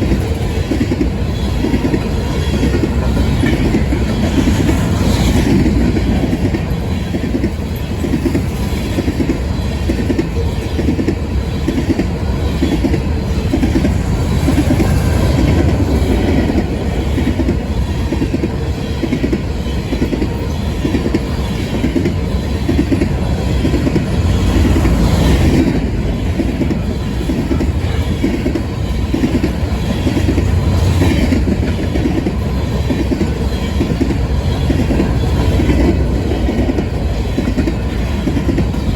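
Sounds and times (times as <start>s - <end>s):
train rumble: 0.0s - 38.9s
train wheels clickety-clack: 0.0s - 38.9s.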